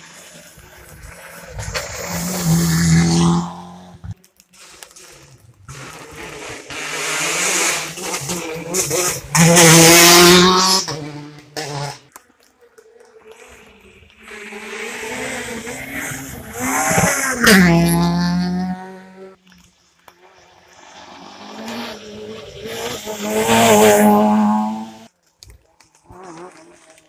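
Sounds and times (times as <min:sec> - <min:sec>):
rally car engine at high revs: 0:00.0 - 0:04.2, 0:05.1 - 0:12.1, 0:13.3 - 0:19.6, 0:20.6 - 0:25.1.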